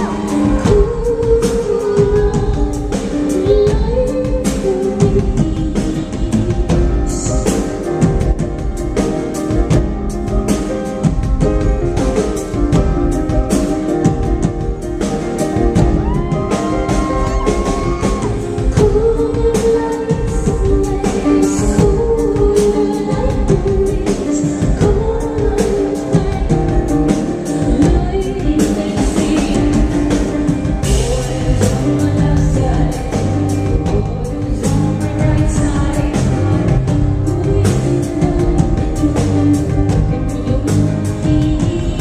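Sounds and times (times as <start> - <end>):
drum-kit beat: 0.0 - 42.0
live band playing: 0.0 - 42.0
woman singing: 0.0 - 42.0.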